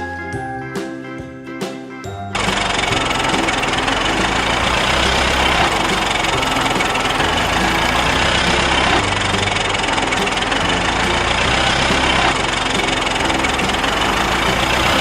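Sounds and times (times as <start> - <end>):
music: 0.0 - 15.0
construction vehicle engine rumbling: 2.4 - 15.0.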